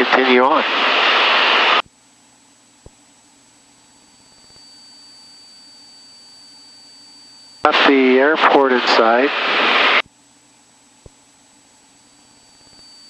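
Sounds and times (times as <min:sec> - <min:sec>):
faint hum with high whine: 0:00.0 - 0:13.0.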